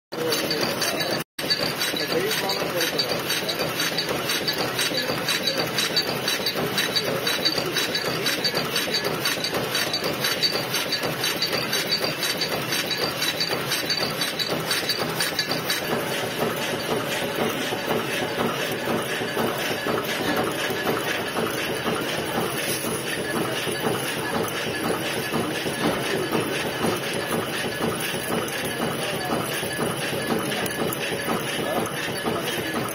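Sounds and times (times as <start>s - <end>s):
punch press metallic clatter: 0.2s - 32.9s.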